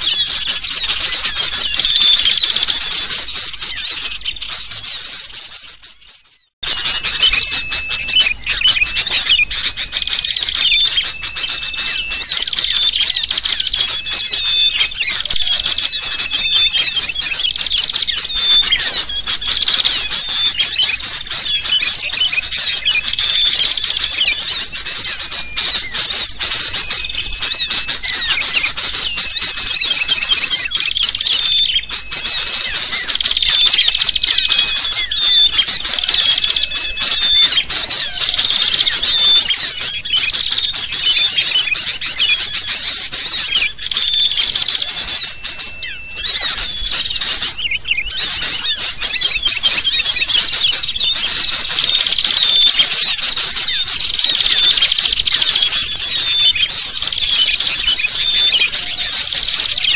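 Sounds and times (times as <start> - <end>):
bulbuls calling: 0.0 - 59.9
small birds chirping: 0.0 - 59.9.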